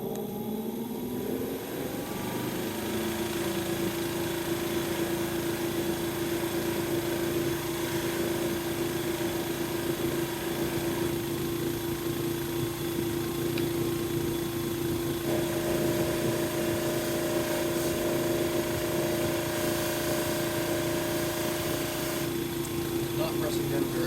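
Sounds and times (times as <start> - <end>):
polishing buffer motor humming: 0.0 - 24.0.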